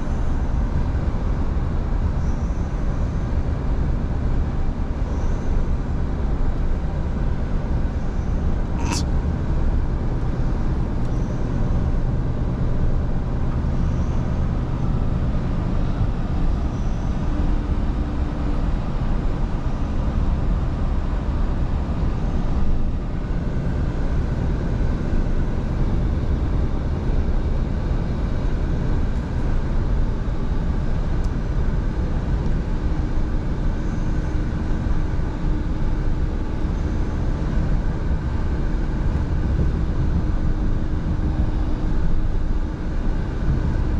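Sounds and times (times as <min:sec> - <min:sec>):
road noise: 0:00.0 - 0:43.9.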